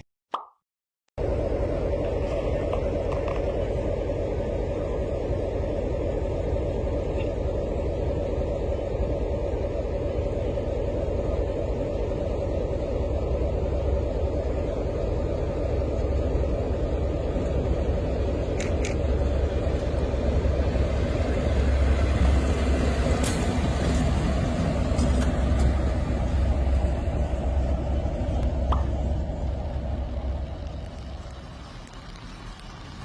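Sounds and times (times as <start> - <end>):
vehicle low rumble: 1.2 - 33.0.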